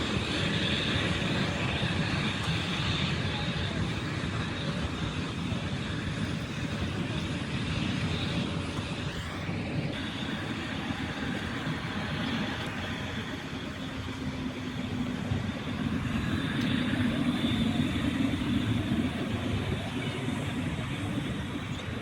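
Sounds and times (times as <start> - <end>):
airliner engines at take-off: 0.0 - 22.0.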